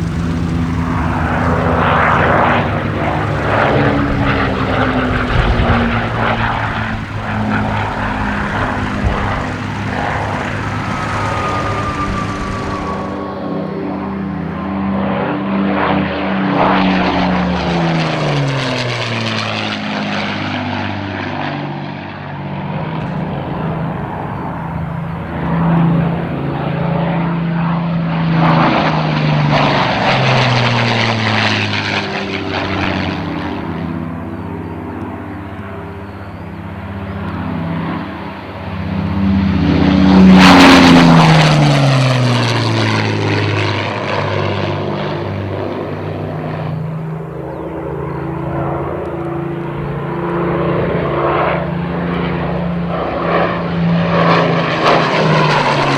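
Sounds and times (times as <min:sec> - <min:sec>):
aircraft engines droning past: 0:00.0 - 0:55.9.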